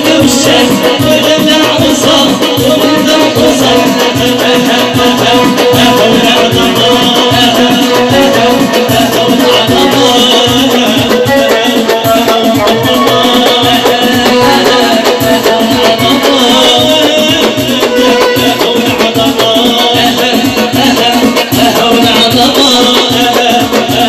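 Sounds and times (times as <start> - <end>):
keyboard playing upbeat song: 0.0 - 24.0
shaker and drum rhythm: 0.0 - 24.0.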